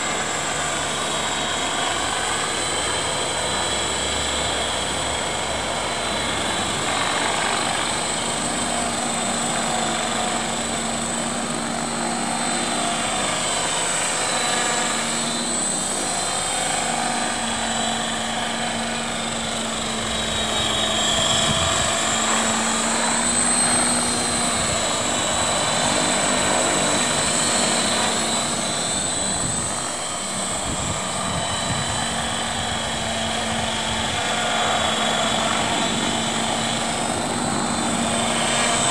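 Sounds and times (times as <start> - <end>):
rc helicopter motor and rotors whine: 0.0 - 38.9.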